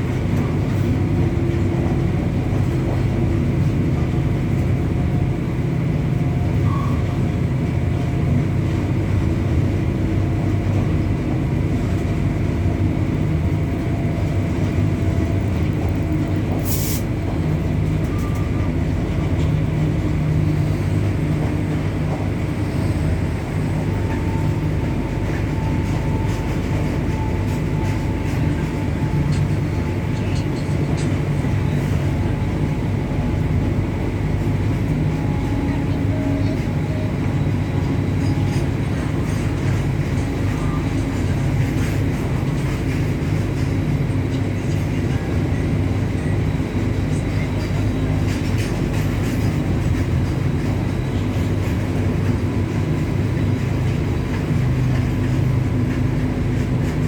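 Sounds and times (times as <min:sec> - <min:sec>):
locomotive heavy rumble: 0:00.0 - 0:57.0.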